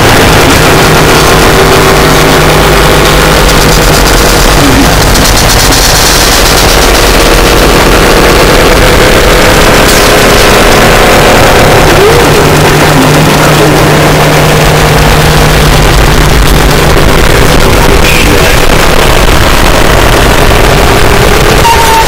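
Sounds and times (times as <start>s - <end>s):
harsh distorted noise music: 0.0s - 22.0s
steady low hum: 0.0s - 22.0s.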